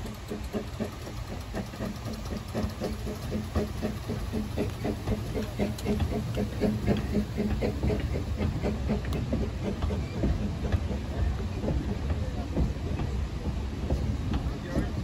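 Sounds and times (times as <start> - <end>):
low train rumble: 0.0 - 15.0
steam hiss: 0.0 - 15.0
train running gear clicking: 0.0 - 15.0.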